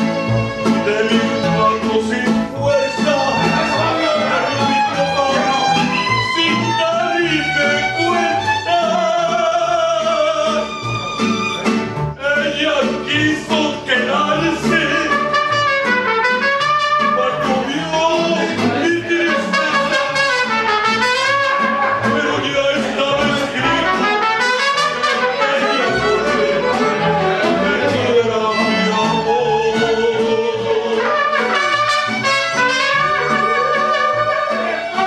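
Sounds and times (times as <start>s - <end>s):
man singing: 0.0s - 35.0s
mariachi band playing: 0.0s - 35.0s.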